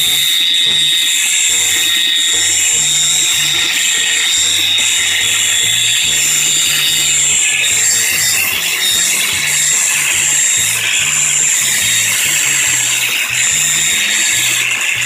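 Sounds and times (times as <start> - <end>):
angle grinder whining: 0.0 - 15.0
background music with bass: 0.0 - 15.0.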